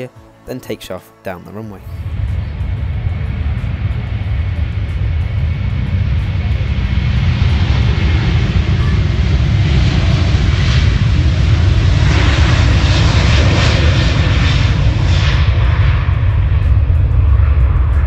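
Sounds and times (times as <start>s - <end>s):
jet airliner taking off: 0.0s - 18.0s.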